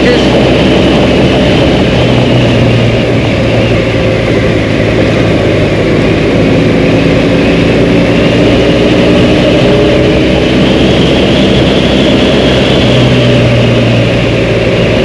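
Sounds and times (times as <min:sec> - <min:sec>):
motorcycle engine running: 0:00.0 - 0:15.0
wind rumbling on microphone: 0:00.0 - 0:15.0.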